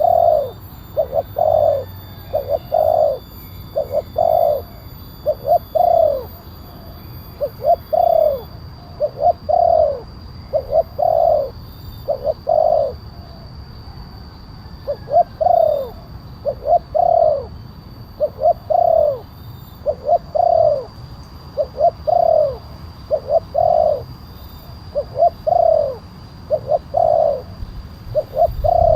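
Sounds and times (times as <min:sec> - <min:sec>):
dove cooing: 0:00.0 - 0:13.6, 0:14.2 - 0:28.9.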